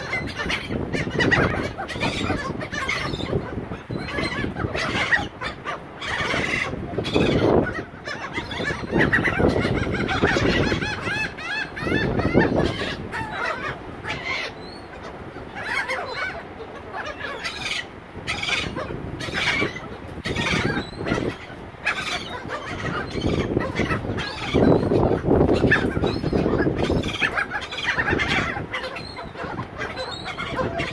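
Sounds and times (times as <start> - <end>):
gulls calling: 0.0 - 30.9.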